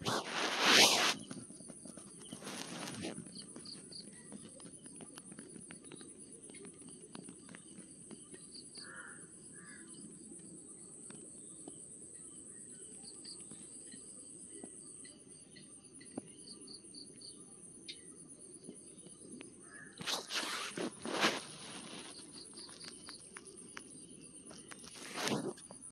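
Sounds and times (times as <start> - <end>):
faint chirps and ticks: 1.2 - 20.1, 21.5 - 25.9.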